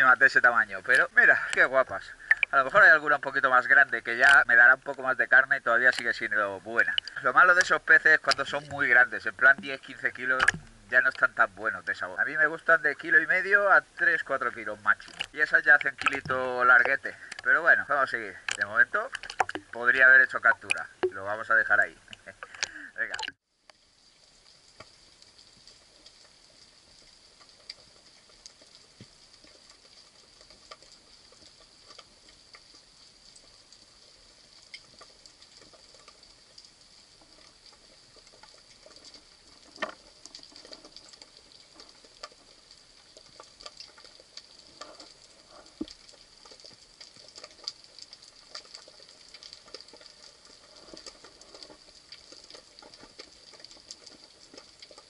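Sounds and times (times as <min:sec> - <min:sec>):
underwater clicks crackling: 0:00.0 - 0:23.8, 0:24.6 - 0:55.0.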